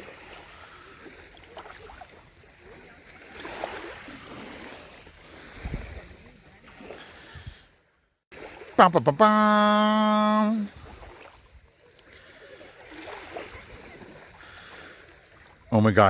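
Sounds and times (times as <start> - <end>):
water lapping and splashing: 0.0 - 16.0.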